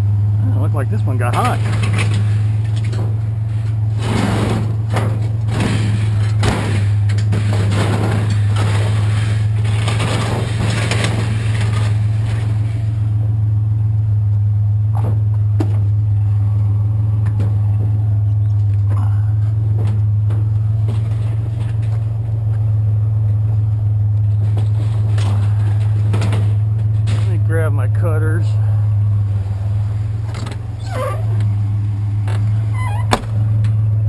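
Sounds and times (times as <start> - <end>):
pickup truck engine idling: 0.0 - 34.0.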